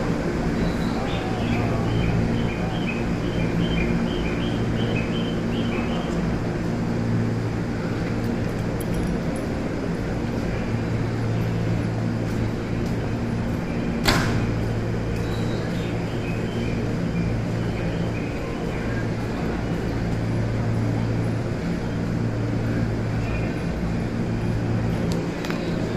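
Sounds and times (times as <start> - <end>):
electric train equipment humming: 0.0 - 25.9.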